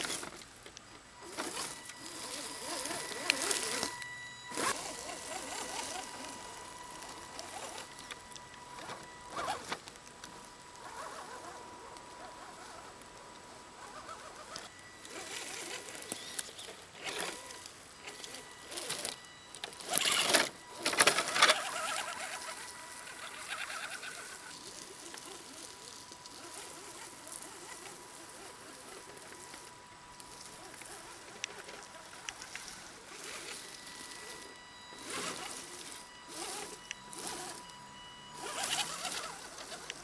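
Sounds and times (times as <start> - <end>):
electric motor whine: 0.0 - 40.0
rustling through leaves: 0.0 - 40.0.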